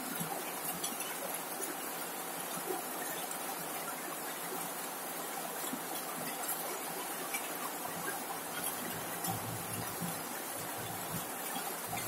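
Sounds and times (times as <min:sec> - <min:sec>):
rain on a metal roof: 0:00.0 - 0:12.0.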